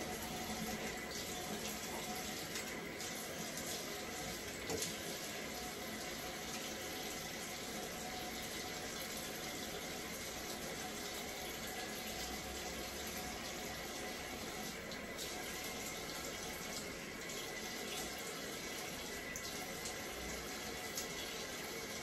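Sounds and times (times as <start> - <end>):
faucet running into sink: 0.0 - 22.0.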